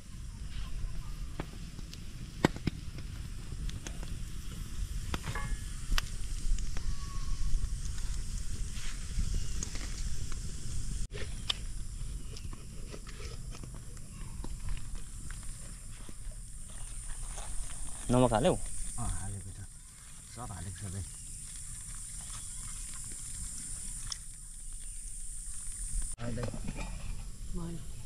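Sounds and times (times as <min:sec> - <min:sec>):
wood fire crackling and popping: 0:01.4 - 0:11.7, 0:13.5 - 0:26.2.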